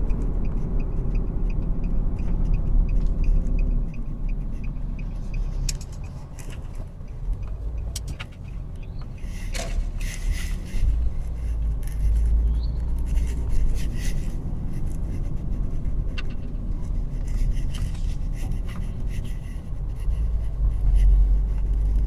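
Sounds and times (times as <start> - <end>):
car road and engine rumble: 0.0 - 22.0
light clicks and rubbing: 2.2 - 22.0.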